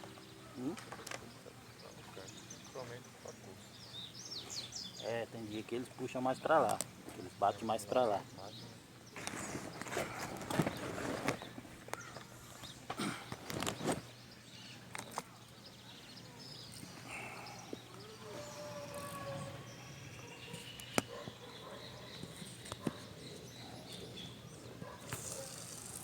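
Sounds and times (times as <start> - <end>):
birds chirping: 0.0 - 26.0
outdoor ambience: 0.0 - 26.0.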